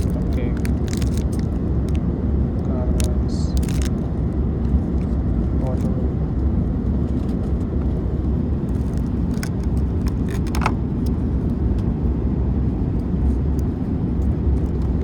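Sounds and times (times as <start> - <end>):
airliner cabin roar: 0.0 - 15.0.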